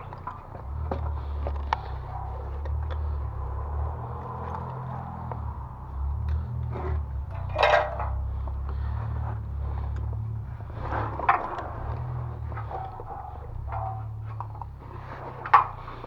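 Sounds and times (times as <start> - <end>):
clinks knocks and scrapes: 0.0 - 16.0
steady low rumble: 0.0 - 16.0.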